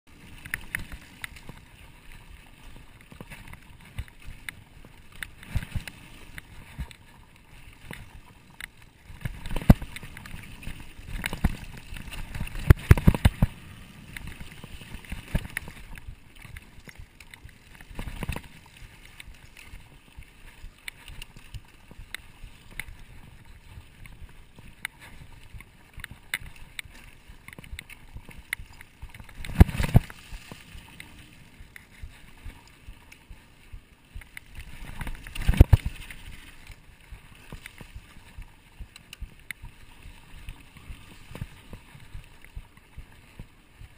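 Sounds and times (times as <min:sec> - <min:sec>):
bike tyres rolling over dirt: 0:00.1 - 0:43.9
bike rattling and knocking: 0:00.2 - 0:20.0, 0:20.6 - 0:43.2.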